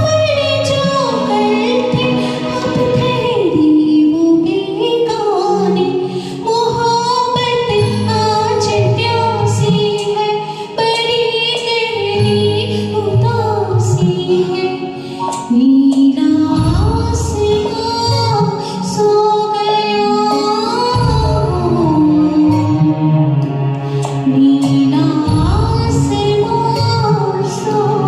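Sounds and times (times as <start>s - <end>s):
instrumental backing track: 0.0s - 28.0s
woman singing: 0.0s - 28.0s.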